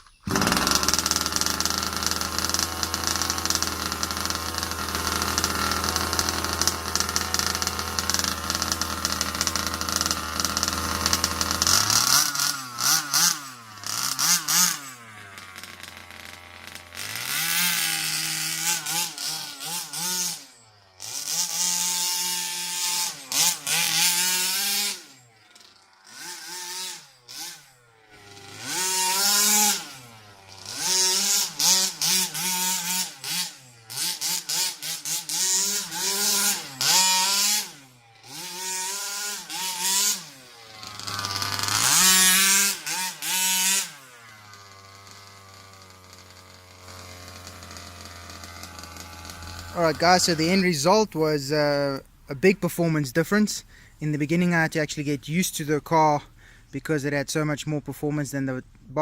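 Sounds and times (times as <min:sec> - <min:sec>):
model car two-stroke engine revving: 0:00.0 - 0:52.2.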